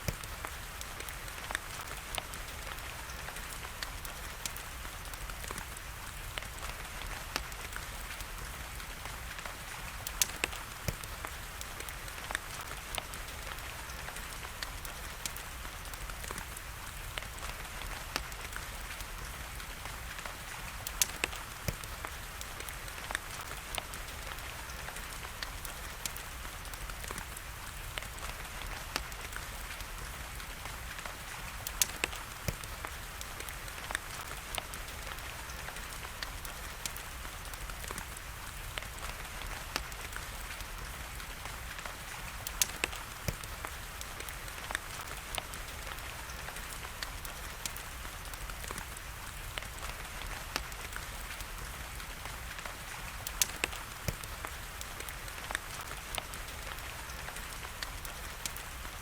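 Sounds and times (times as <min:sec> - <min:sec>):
rain hiss: 0:00.0 - 0:59.0
wood fire crackling and popping: 0:00.0 - 0:59.0.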